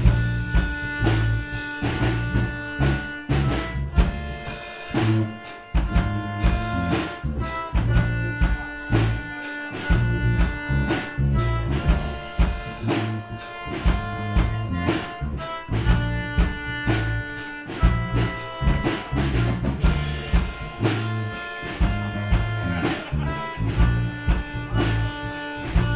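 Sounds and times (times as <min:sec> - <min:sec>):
accordion notes: 0:00.0 - 0:25.9
bass: 0:00.0 - 0:25.9
drum kit beat: 0:00.0 - 0:25.9
guitar: 0:00.0 - 0:25.9.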